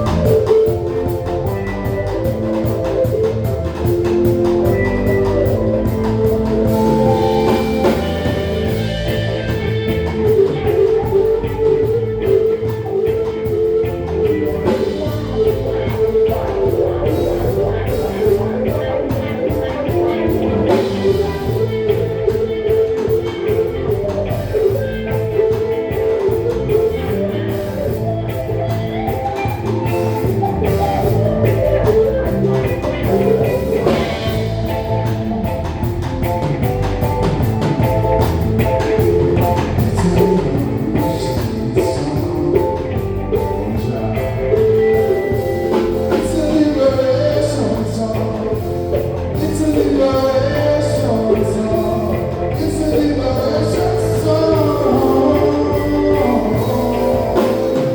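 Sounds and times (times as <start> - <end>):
live rock band playing: 0.0 - 57.9
person singing: 0.0 - 57.9.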